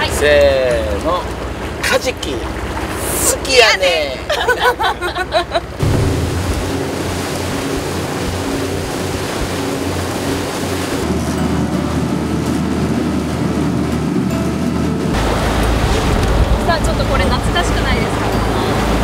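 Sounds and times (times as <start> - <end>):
motorboat engine drone: 0.0 - 19.0
rushing wake water: 0.0 - 19.0
wind: 0.0 - 19.0.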